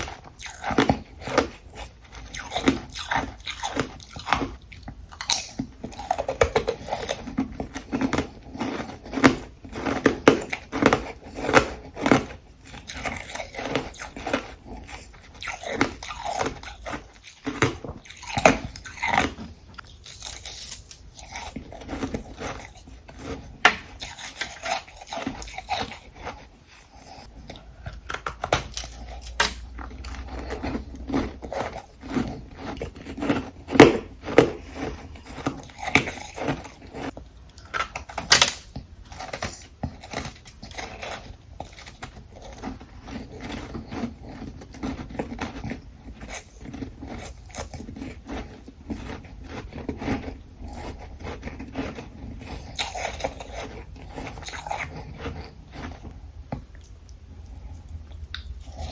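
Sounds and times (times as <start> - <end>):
ice crunching while chewed: 0.0 - 58.9.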